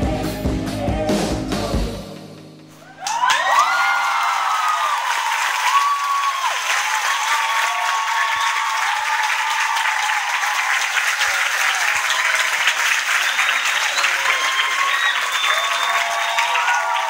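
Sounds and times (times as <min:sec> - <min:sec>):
crowd applauding and cheering: 0:02.7 - 0:17.0
high voices whooping: 0:02.8 - 0:17.0.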